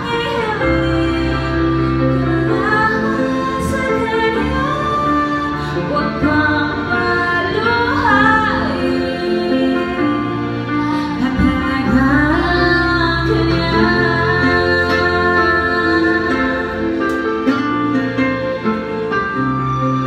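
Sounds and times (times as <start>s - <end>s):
woman singing: 0.0s - 17.3s
instrumental backing music: 0.0s - 20.0s.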